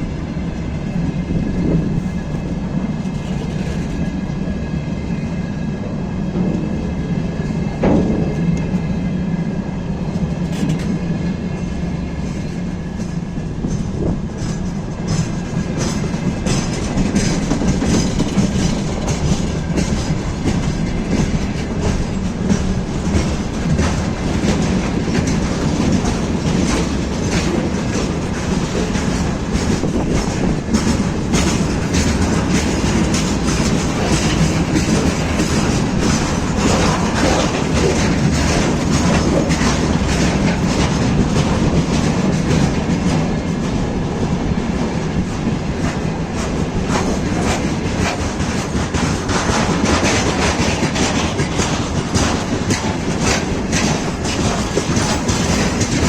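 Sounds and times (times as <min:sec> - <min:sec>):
train low rumble: 0:00.0 - 0:56.0
train wheels clicking on rail joints: 0:00.0 - 0:56.0.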